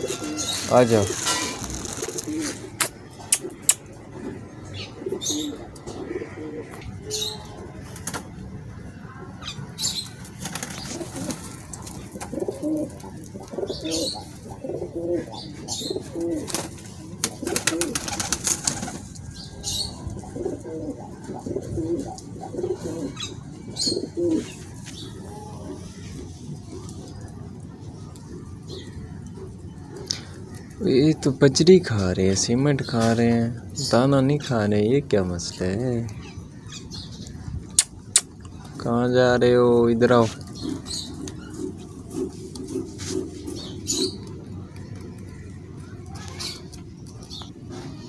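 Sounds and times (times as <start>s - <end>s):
pigeons cooing: 0.0s - 31.6s, 39.4s - 48.0s.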